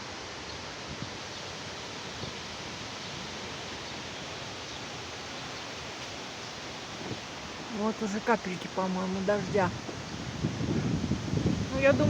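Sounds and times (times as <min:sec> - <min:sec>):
wind rustling tree leaves: 0:00.0 - 0:12.0.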